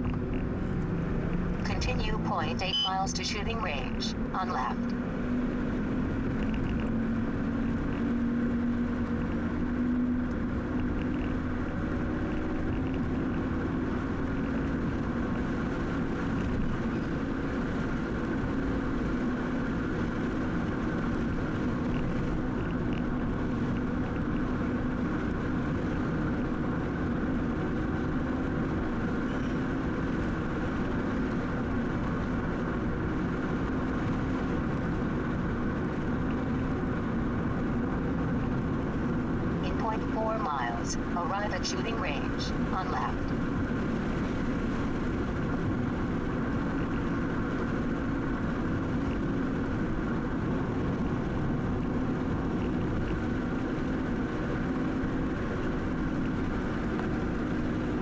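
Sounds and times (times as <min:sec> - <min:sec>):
car engine and tyre drone: 0:00.0 - 0:02.9, 0:04.1 - 0:40.3, 0:42.5 - 0:58.0.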